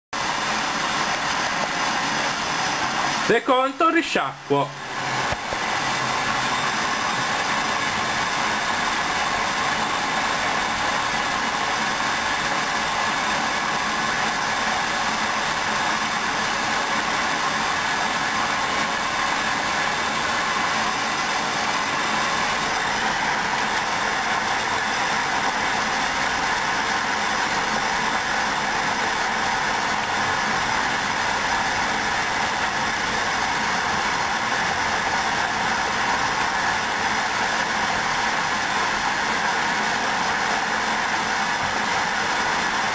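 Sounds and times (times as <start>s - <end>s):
washing machine rushing: 0.2s - 42.9s.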